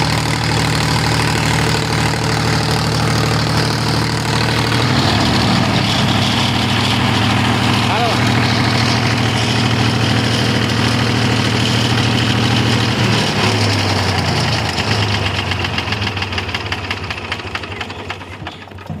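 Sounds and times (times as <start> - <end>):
diesel generator engine clattering: 0.0 - 19.0.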